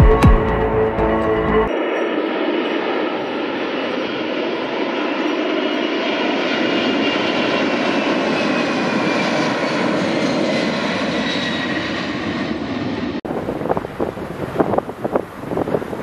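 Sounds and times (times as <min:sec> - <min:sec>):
jet engine whine: 0:00.5 - 0:16.0
jet engines at takeoff power: 0:01.7 - 0:16.0.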